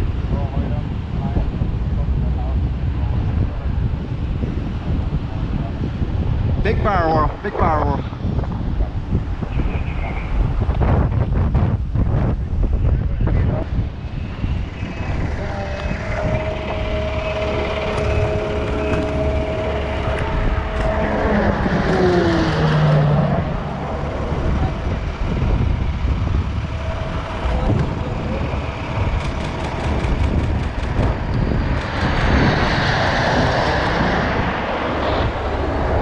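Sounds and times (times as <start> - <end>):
aircraft engine drone: 0.0 - 36.0.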